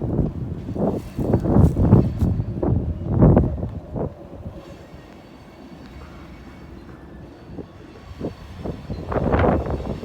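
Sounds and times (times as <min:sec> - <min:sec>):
freight train passing: 0:00.0 - 0:10.0
wind buffeting microphone: 0:00.0 - 0:10.0.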